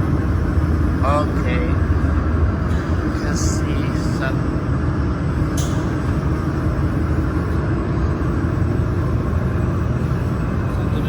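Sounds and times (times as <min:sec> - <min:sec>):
water chiller rumble and hum: 0:00.0 - 0:11.0.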